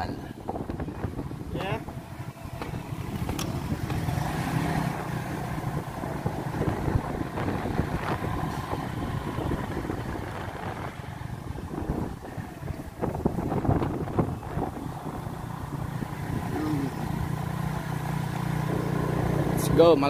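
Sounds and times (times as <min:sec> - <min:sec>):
road and wind noise: 0:00.0 - 0:20.0
motorcycle engine running: 0:00.4 - 0:20.0.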